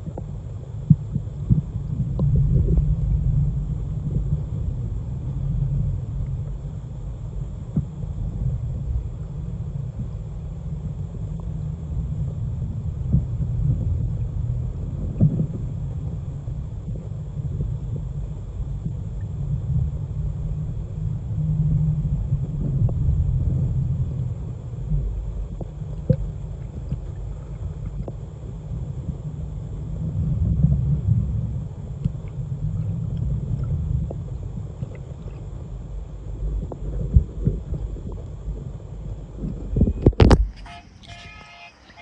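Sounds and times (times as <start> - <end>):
underwater rumble of pond water: 0.0 - 42.0.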